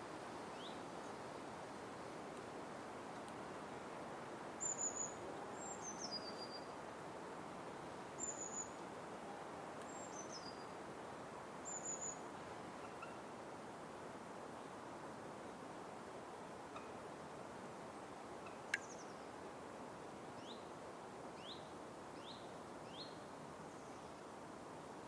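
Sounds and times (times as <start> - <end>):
forest ambience hiss: 0.0 - 25.0.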